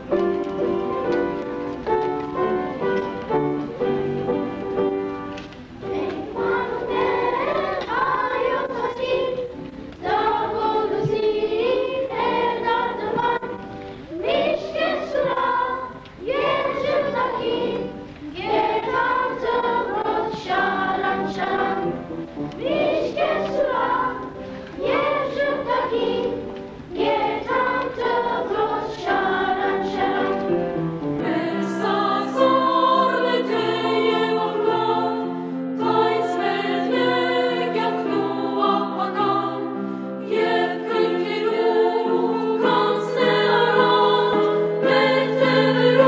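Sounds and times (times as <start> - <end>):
held instrumental notes: 0.0 - 46.0
choir singing: 5.8 - 46.0.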